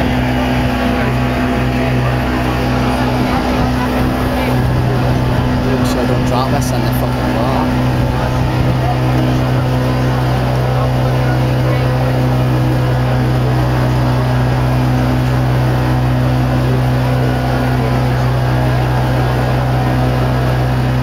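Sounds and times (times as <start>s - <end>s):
motorboat engine droning: 0.0s - 21.0s
water rushing along hull: 0.0s - 21.0s.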